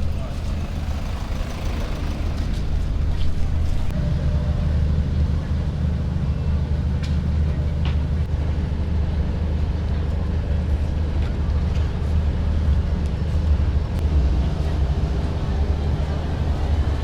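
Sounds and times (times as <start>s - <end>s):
faint hubbub of voices: 0.0s - 17.0s
steady low rumble: 0.0s - 17.0s.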